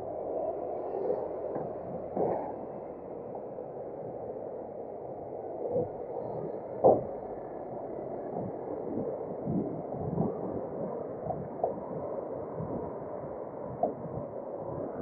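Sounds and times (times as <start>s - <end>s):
muffled road traffic rumble: 0.0s - 15.0s.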